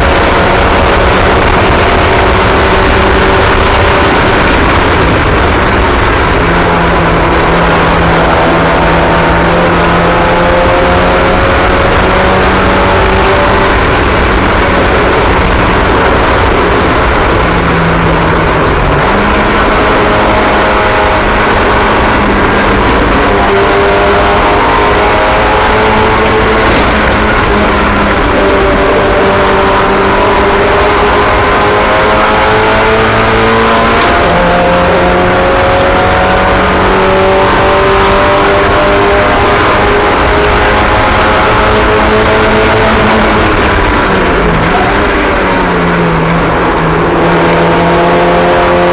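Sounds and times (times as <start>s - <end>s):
small racing engines droning: 0.0s - 48.9s.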